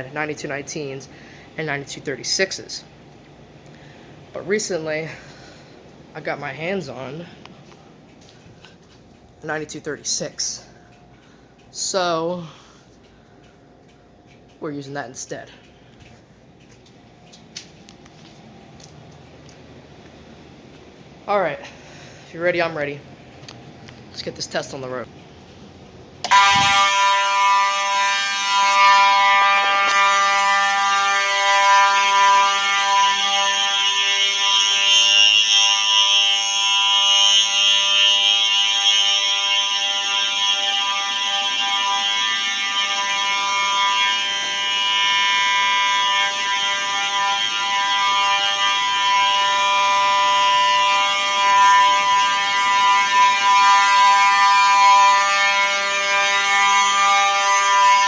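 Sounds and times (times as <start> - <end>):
fire alarm horns: 0.0 - 58.0.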